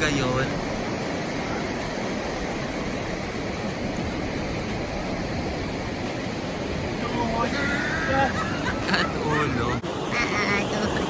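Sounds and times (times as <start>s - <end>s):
ocean surf on sandy beach: 0.0s - 11.0s.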